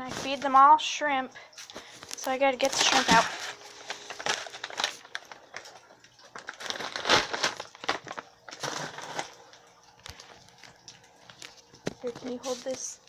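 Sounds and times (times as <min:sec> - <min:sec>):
plastic package crinkling: 0:01.7 - 0:13.0.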